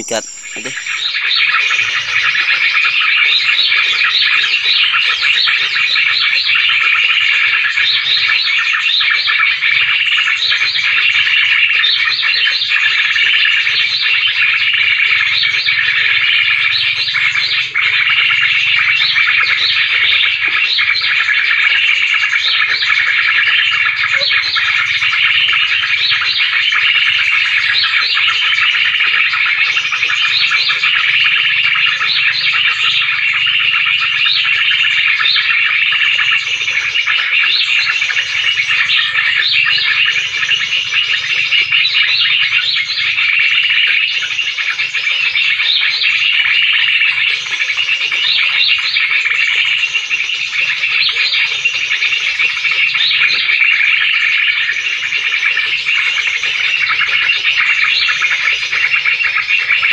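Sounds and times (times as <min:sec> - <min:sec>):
birds chirping and whistling: 0:00.0 - 0:59.9
high-pitched bird chatter: 0:00.0 - 0:59.9.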